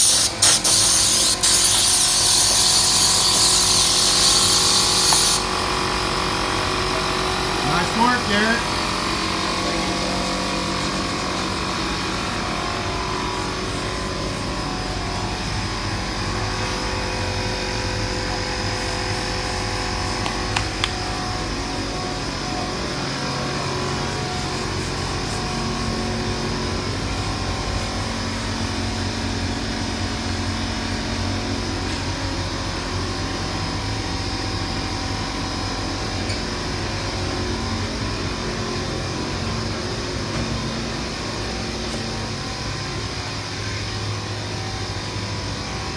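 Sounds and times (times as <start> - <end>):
shop machinery droning: 0.0 - 45.9.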